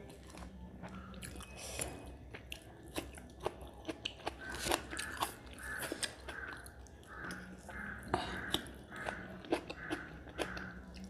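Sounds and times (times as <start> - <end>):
chewing with wet mouth clicks: 0.0 - 11.0.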